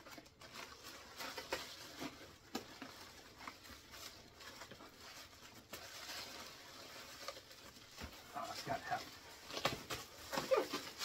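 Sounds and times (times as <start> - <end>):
plastic wrapping rustling: 0.0 - 11.0.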